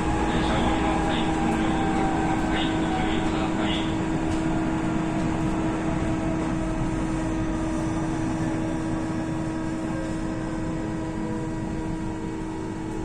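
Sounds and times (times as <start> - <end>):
train interior hum: 0.0 - 13.0.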